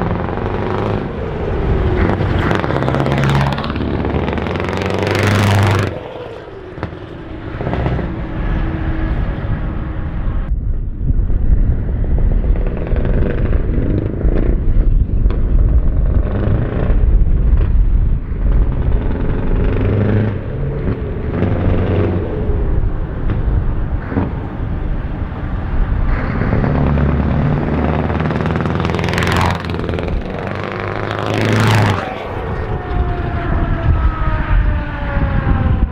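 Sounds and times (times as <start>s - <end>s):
truck engines revving: 0.0s - 10.5s, 11.3s - 35.9s.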